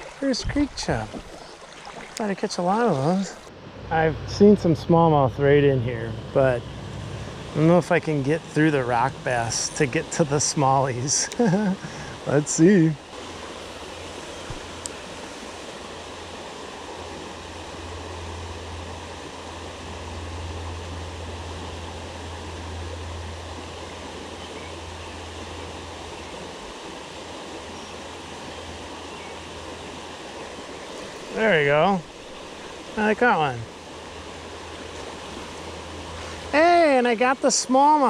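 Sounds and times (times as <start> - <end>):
creek water flowing: 0.0 - 38.0.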